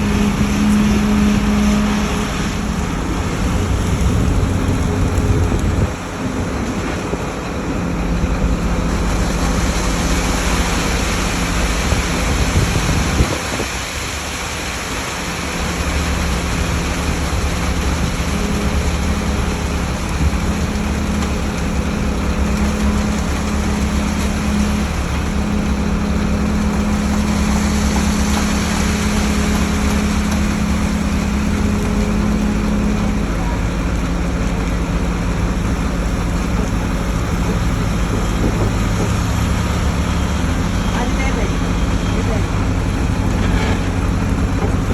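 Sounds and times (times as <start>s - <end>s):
heavy truck engine running: 0.0s - 44.9s.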